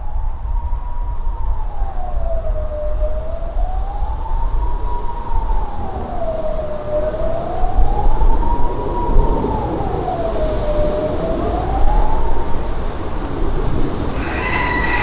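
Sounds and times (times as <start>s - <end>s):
siren rising and falling wail: 0.0s - 15.0s.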